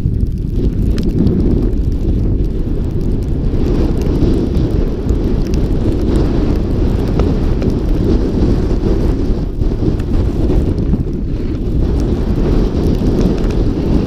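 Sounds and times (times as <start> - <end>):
snowboard sliding over snow: 0.0 - 14.0
wind buffeting microphone: 0.0 - 14.0.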